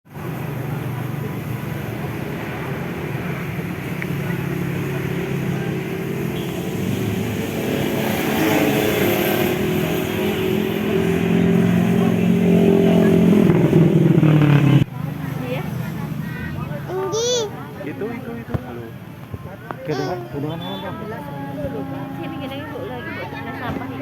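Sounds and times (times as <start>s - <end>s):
engine humming: 0.1s - 24.0s.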